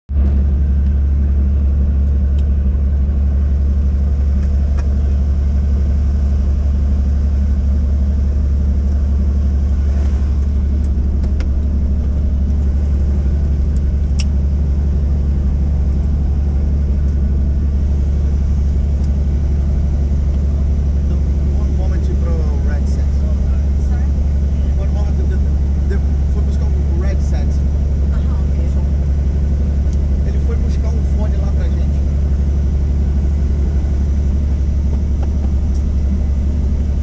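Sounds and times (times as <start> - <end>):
helicopter rotor and engine drone: 0.1 - 37.0.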